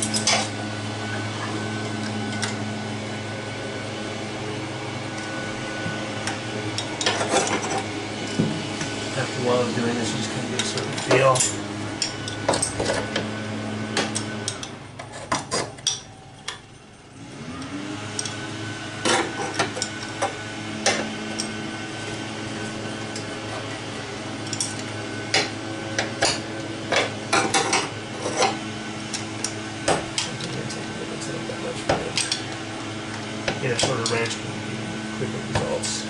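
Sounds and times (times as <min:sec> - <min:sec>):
machine hum: 0:00.0 - 0:36.0.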